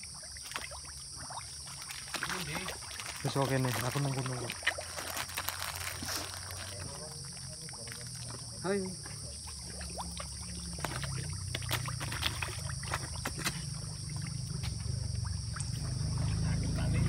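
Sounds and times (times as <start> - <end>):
fish splashing in shallow water: 0.0 - 17.0.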